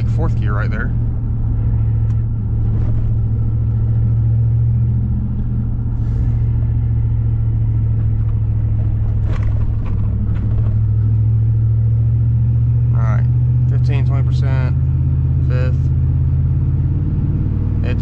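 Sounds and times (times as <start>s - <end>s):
engine and road noise in cab: 0.0s - 18.0s.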